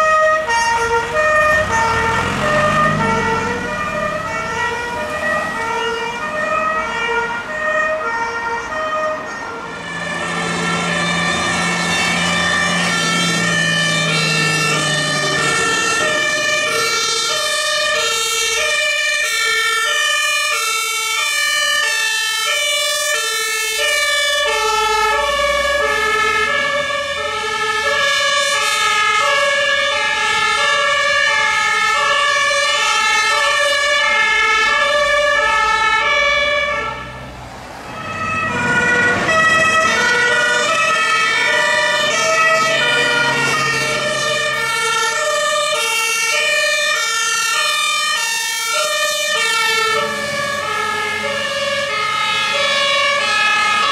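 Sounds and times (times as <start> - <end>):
two-tone emergency horns: 0.0 - 37.1, 37.9 - 53.9.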